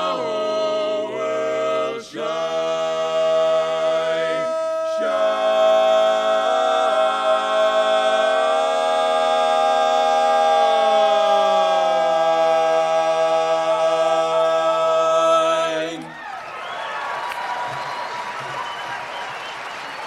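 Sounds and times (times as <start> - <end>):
men singing a cappella chords: 0.0 - 16.1.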